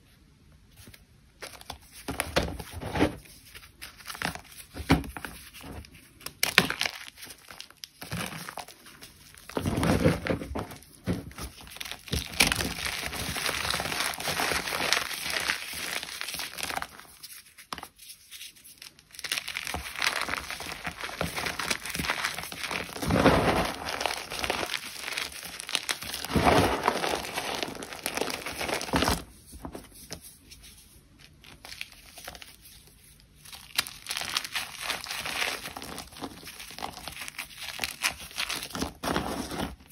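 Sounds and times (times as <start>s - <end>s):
chalk crunching and crackling: 3.2s - 39.9s.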